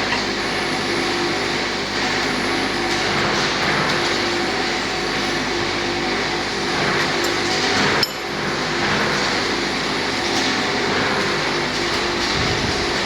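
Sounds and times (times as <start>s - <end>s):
lathe machine running: 0.0s - 13.0s.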